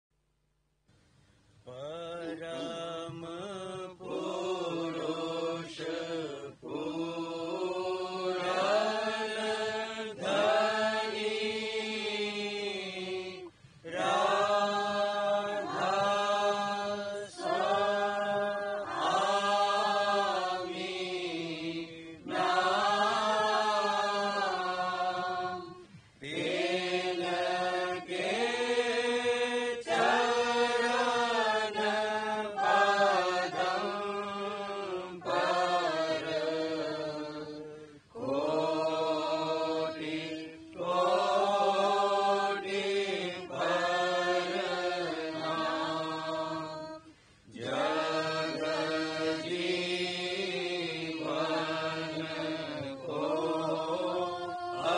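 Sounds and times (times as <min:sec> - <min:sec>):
devotional chanting: 0:01.2 - 0:54.9.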